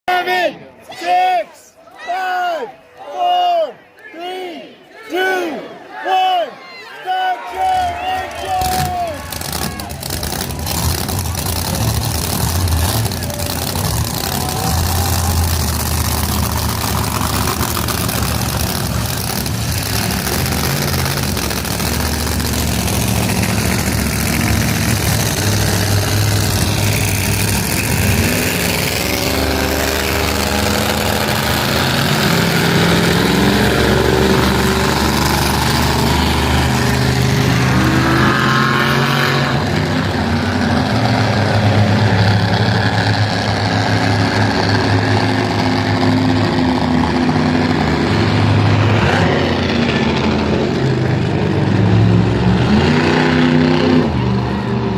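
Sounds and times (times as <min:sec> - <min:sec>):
truck engines running: 0:06.9 - 0:54.9
truck engine revving: 0:07.6 - 0:54.9.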